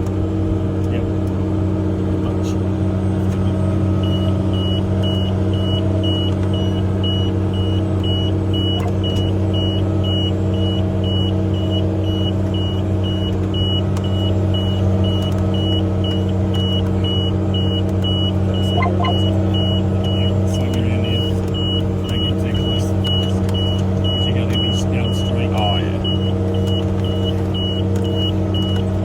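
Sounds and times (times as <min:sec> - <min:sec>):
tractor diesel engine running: 0:00.0 - 0:29.0
fast electronic beeper: 0:04.0 - 0:28.8.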